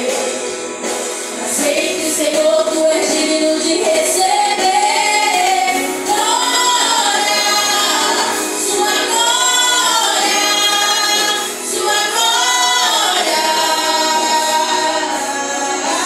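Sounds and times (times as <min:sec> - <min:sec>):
group singing a worship song: 0:00.0 - 0:16.0.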